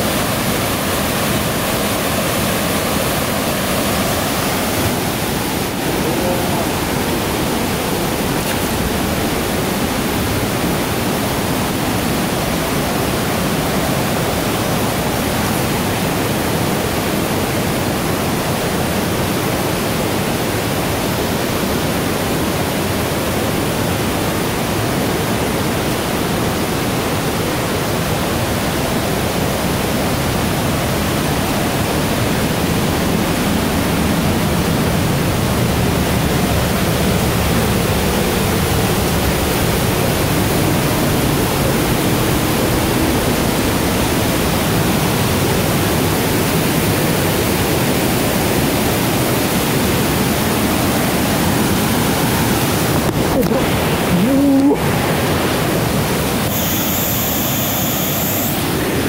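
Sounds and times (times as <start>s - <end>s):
stream pouring over rocks: 0.0s - 56.5s
waterfall rushing: 0.0s - 59.0s.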